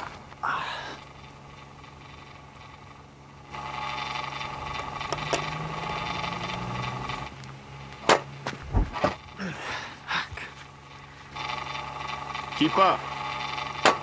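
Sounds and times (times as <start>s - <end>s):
pitching machine whirring: 0.0s - 14.0s.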